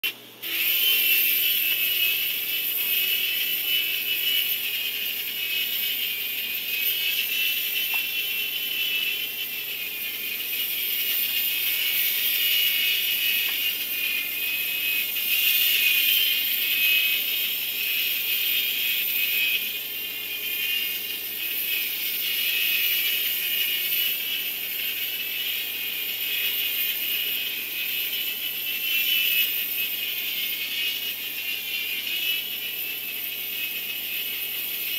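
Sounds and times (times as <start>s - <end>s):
toy helicopter motors whining: 0.4s - 34.9s.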